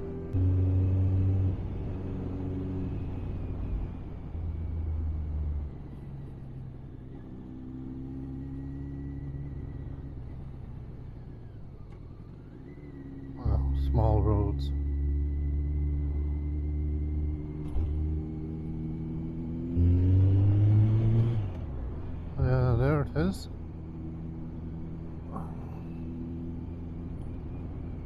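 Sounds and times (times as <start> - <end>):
road and wind rumble: 0.0 - 28.0.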